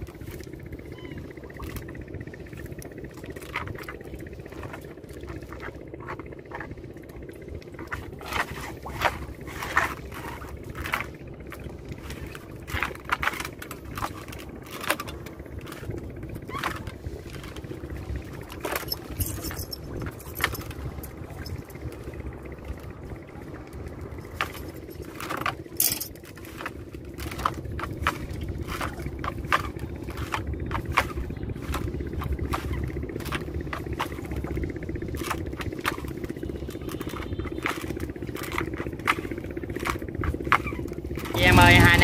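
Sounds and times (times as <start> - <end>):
boat engine running: 0.0 - 42.0
knocks and rattles of net: 1.2 - 23.2, 24.1 - 42.0.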